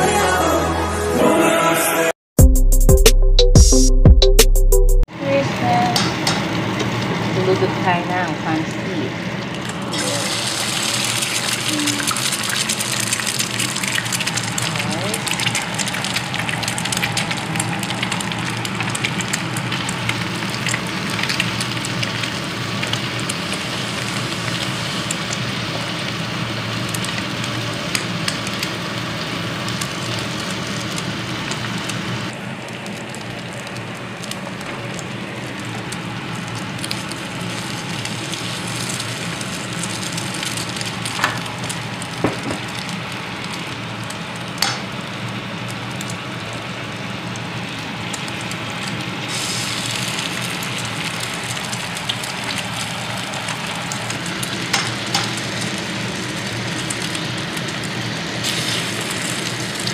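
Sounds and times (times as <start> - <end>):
meat sizzling in a frying pan: 5.6 - 59.9.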